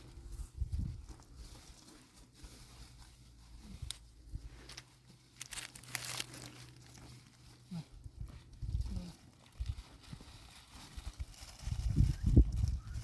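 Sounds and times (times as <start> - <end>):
material rustling and crinkling: 0.0 - 13.0.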